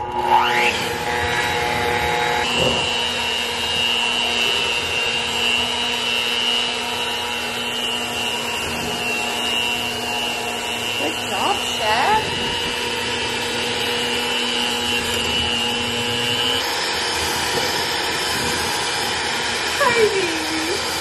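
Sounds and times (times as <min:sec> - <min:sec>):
electric hand mixer whirring: 0:00.0 - 0:21.0.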